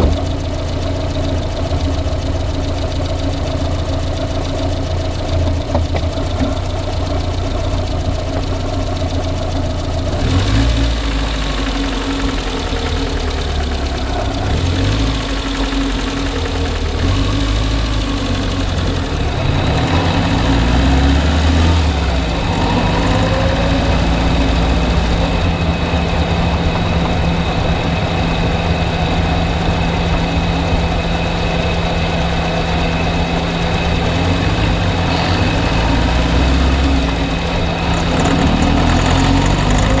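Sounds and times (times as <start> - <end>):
car engine idling with knocking: 0.0 - 40.0.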